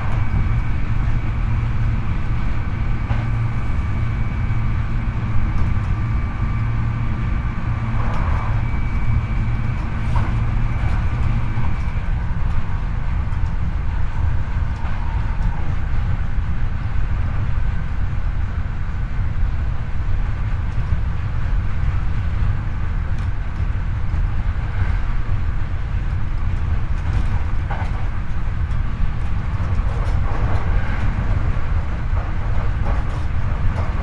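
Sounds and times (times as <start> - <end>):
electric train running: 0.0 - 17.8, 24.4 - 34.0.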